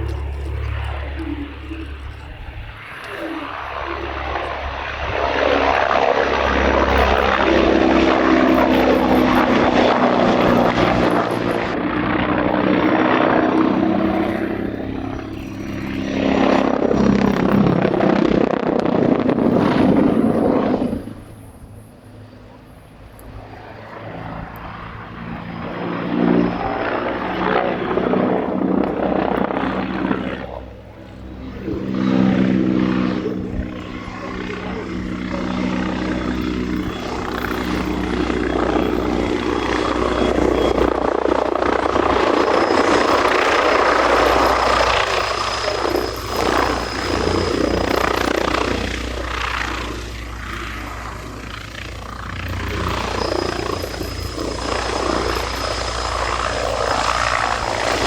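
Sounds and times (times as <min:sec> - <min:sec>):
turbine noise: 0:00.0 - 0:22.2, 0:26.5 - 0:58.0
helicopter rotors beating: 0:00.0 - 0:58.0.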